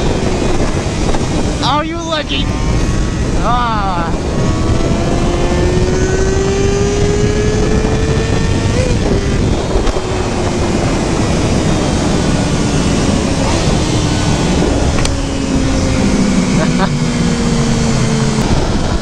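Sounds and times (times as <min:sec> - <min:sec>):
heavy wind noise: 0:00.0 - 0:19.0
motorcycle engine running: 0:02.4 - 0:19.0.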